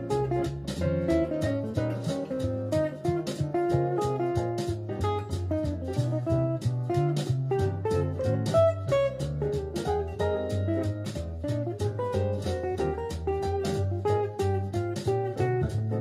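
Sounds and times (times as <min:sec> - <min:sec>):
bass and drums backing track: 0:00.0 - 0:16.0
electric guitar melody: 0:00.0 - 0:16.0.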